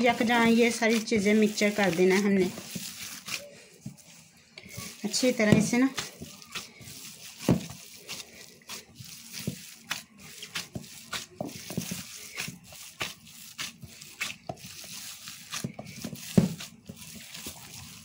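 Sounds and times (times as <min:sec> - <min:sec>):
hand kneading wet mixture: 0:00.0 - 0:18.0.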